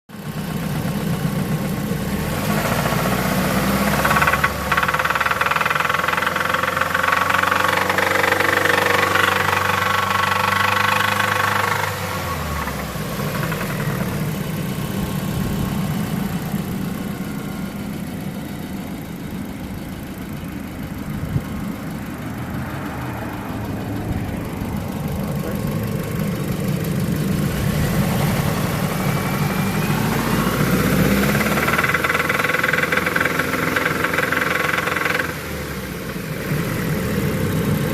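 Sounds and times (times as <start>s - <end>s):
car engine running with knocking: 0.1s - 37.9s.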